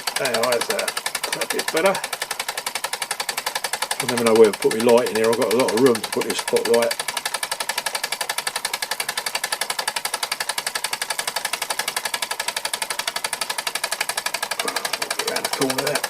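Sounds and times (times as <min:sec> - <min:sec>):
toy steam engine running fast: 0:00.0 - 0:16.0.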